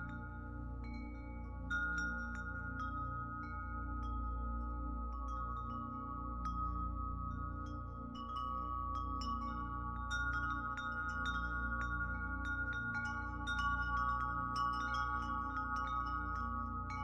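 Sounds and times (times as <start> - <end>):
tinkling chime-like notes: 0.0 - 17.0.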